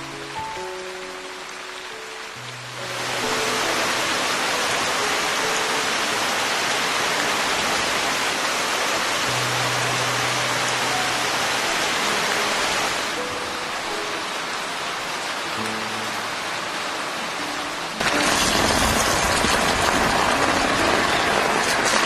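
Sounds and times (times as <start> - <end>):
heavy rain on foliage: 0.0 - 22.0
soft background music: 0.0 - 22.0.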